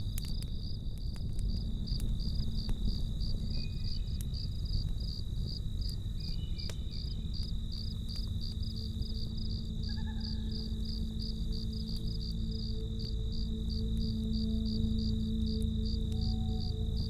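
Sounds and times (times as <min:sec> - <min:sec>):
campfire crackling: 0:00.0 - 0:17.0
crickets chirping: 0:00.0 - 0:17.0.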